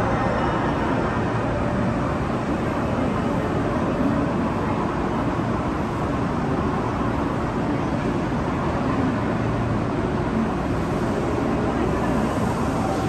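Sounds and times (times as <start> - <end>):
railway station din: 0.0 - 13.0.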